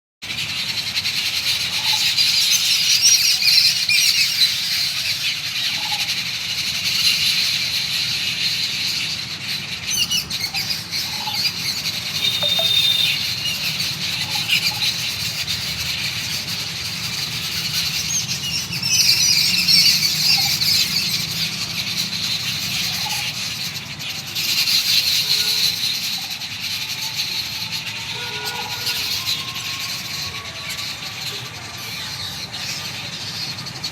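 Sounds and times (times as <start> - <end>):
small birds chirping chorus: 0.2 - 33.9.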